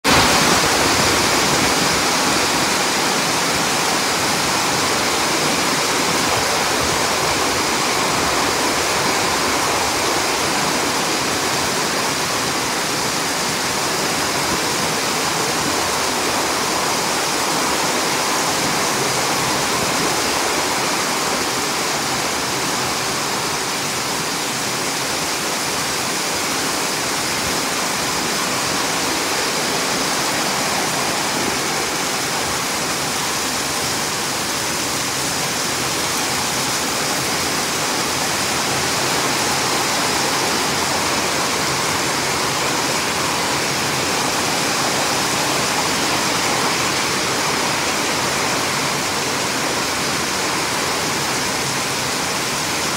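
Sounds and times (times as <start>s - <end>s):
heavy rain downpour: 0.0s - 52.9s.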